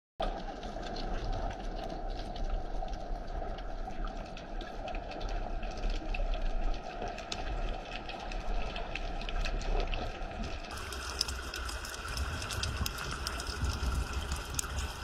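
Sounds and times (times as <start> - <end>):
crackling clicks underwater: 0.2 - 15.0
underwater hiss and rumble: 0.2 - 15.0.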